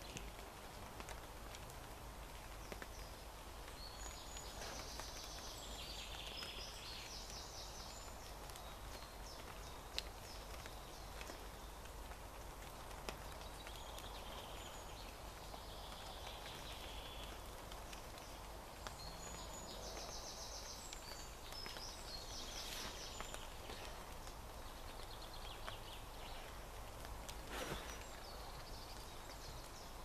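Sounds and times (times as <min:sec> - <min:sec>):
rain hiss: 0:00.0 - 0:30.0.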